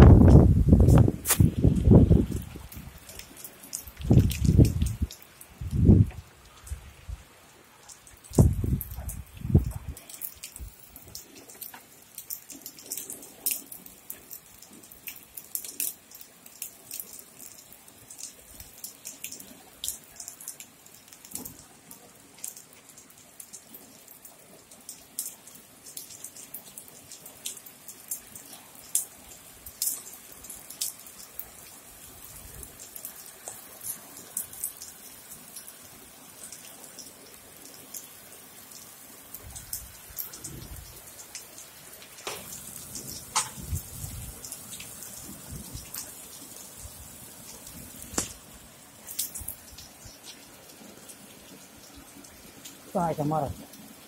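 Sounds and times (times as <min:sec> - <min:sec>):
raindrops tapping: 0:00.0 - 0:06.8, 0:07.8 - 0:35.8, 0:36.4 - 0:53.8
rain hiss: 0:00.0 - 0:54.0.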